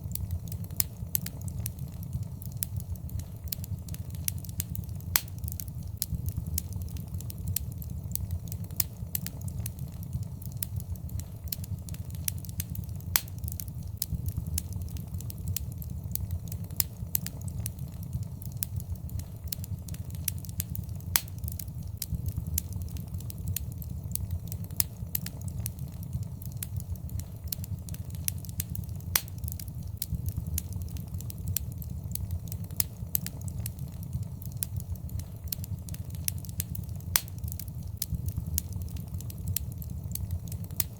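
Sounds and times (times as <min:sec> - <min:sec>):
fire crackling in a fireplace: 0:00.0 - 0:40.9.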